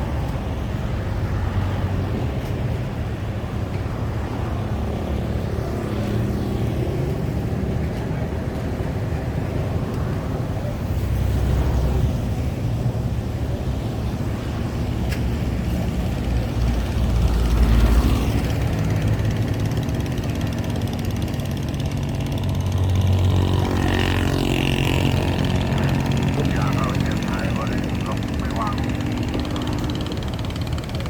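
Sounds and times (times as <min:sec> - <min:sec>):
engines droning: 0:00.0 - 0:31.0.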